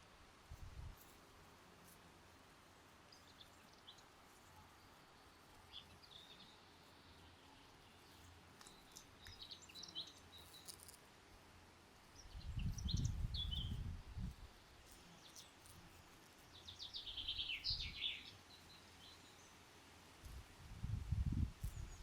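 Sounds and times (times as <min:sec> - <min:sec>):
small songbirds chirping: 0:02.6 - 0:22.0.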